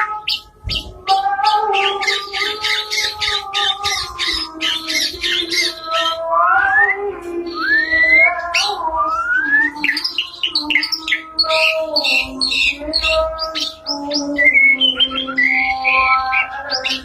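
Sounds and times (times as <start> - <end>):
bird singing whistled song: 0.2 - 17.0.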